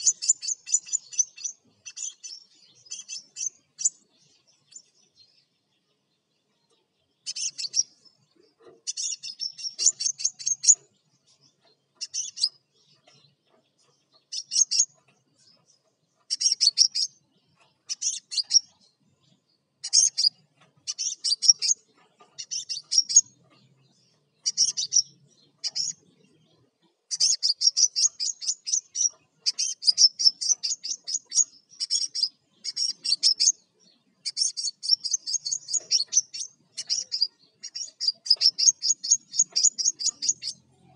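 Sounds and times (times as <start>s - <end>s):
bird singing rapid high chattering: 0.0s - 40.9s.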